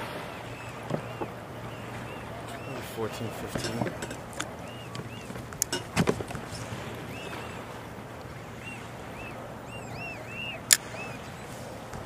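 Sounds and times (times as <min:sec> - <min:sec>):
hiss of wind and water: 0:00.0 - 0:12.0.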